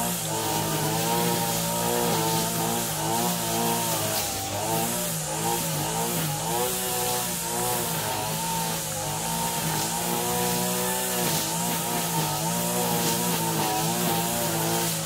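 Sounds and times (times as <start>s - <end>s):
motor engine running: 0.0s - 15.0s.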